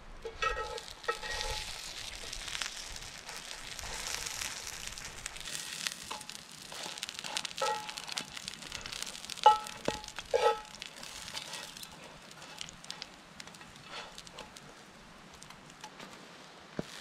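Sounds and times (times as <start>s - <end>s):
meat sizzling in hot oil: 0.4s - 14.6s, 16.8s - 17.0s.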